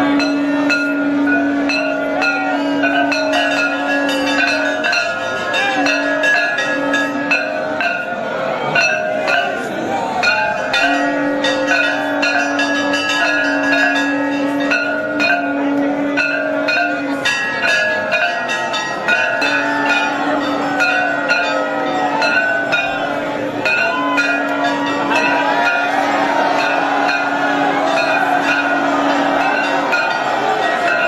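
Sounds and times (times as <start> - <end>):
temple bells clanging: 0.0 - 31.0.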